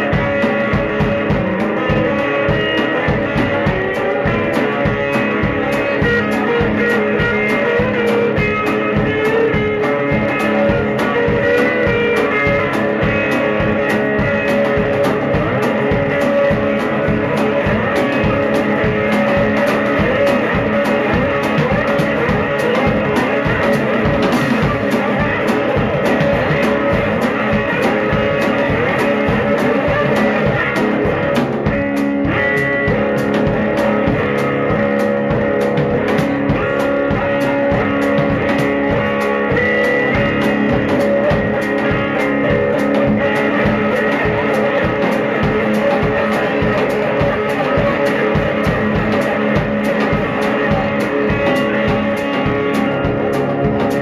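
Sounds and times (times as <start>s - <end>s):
blues electric guitar: 0.0s - 54.0s
drum kit beat: 0.0s - 54.0s.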